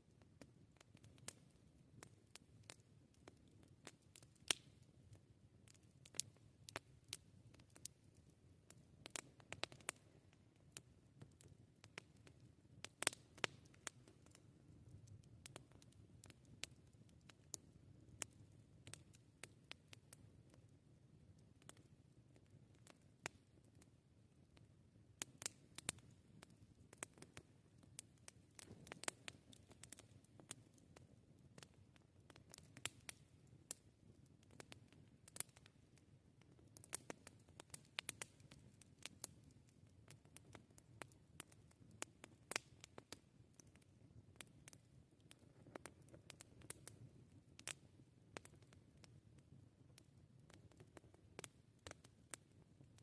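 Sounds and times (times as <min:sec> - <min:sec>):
faint low background: 0:00.0 - 0:53.0
campfire crackling: 0:00.1 - 0:53.0.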